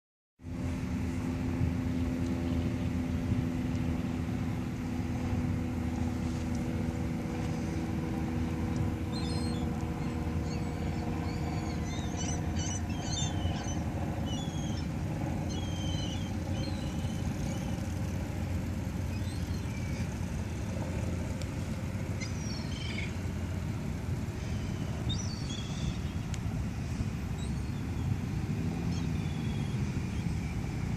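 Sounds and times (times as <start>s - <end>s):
city traffic rumble: 0.4s - 30.9s
engine hum: 0.4s - 30.9s
gulls calling: 4.6s - 30.9s.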